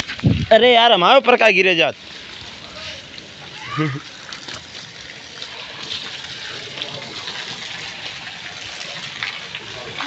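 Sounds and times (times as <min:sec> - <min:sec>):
hail and rain pelting down: 0:00.0 - 0:10.0
hailstones ticking: 0:00.0 - 0:10.0.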